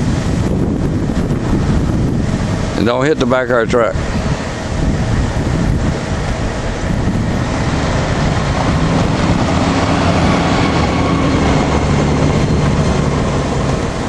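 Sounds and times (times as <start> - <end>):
vehicle engine humming: 0.0 - 14.0
wind buffeting microphone: 0.0 - 14.0.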